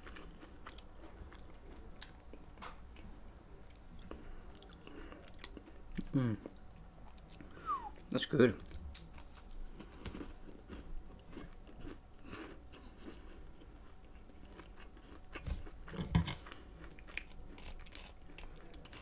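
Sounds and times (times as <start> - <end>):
chewing soft cookie: 0.0 - 19.0.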